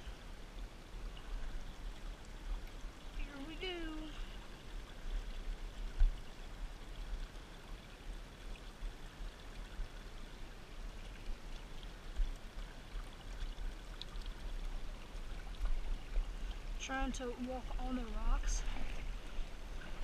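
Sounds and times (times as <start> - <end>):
creek water running over rocks: 0.0 - 20.0.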